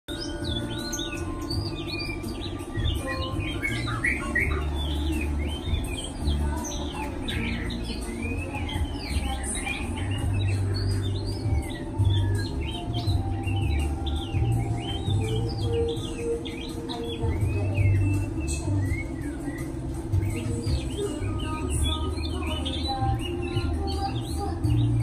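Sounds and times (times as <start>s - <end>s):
songbirds chirping: 0.1s - 25.0s.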